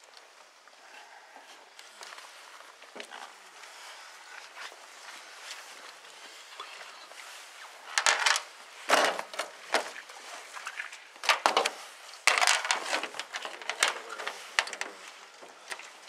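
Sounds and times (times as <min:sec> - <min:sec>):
rustling scrapes on boat hull: 0:01.6 - 0:16.0.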